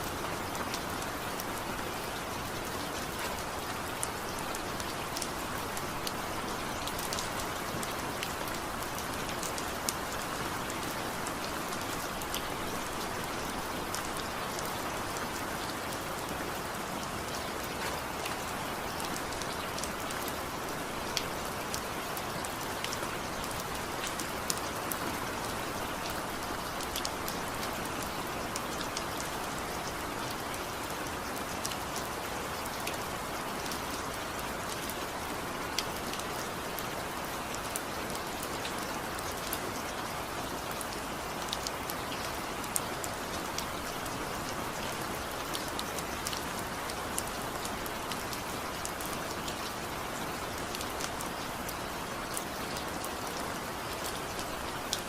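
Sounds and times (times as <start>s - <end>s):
raindrops ticking on a surface: 0.0s - 55.0s
steady rain hiss: 0.0s - 55.0s.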